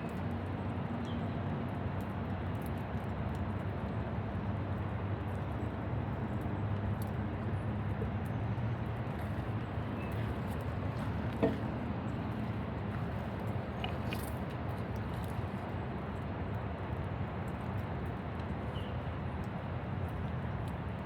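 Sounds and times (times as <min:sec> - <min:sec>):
faint drip ticks: 0:00.0 - 0:21.0.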